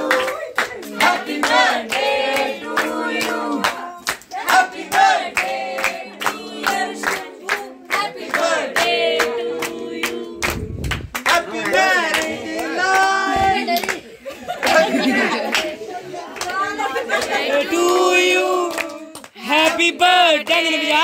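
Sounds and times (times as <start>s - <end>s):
hands clapping: 0.0s - 14.0s, 14.6s - 21.0s
group of people singing: 0.0s - 21.0s.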